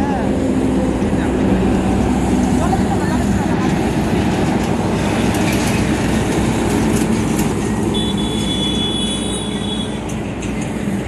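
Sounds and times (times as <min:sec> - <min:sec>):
heavy lorry driving past: 0:00.0 - 0:11.0.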